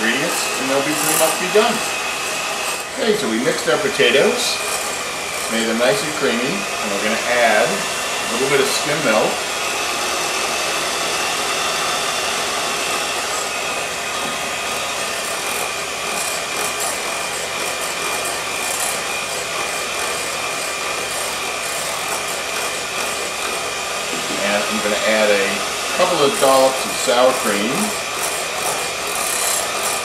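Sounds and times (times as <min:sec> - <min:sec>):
beaters whipping potatoes in bowl: 0:00.0 - 0:30.0
electric hand mixer whining: 0:00.0 - 0:30.0.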